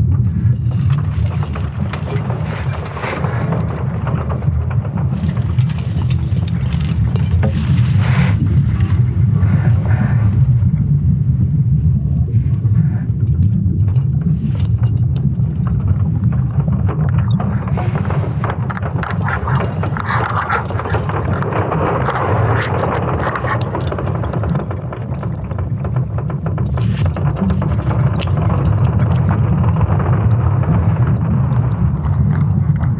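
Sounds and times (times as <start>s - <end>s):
crackles and creaks: 0.0s - 32.9s
deep steady rumble: 0.0s - 32.9s.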